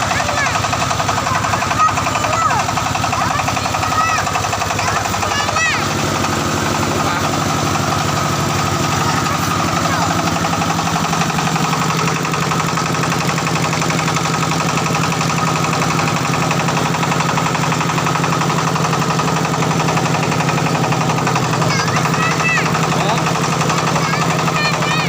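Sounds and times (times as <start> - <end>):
diesel engine chugging: 0.0 - 25.0
machine rattle: 0.0 - 25.0.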